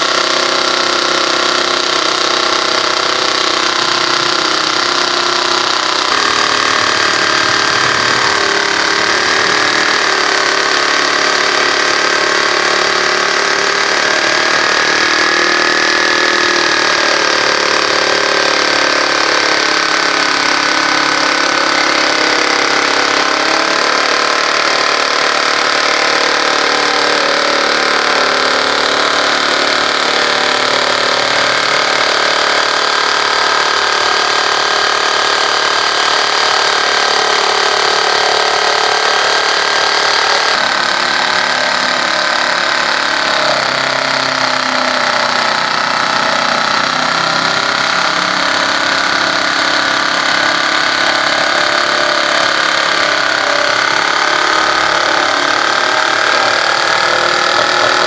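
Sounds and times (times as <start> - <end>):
jigsaw sawing through plywood: 0.0 - 58.0.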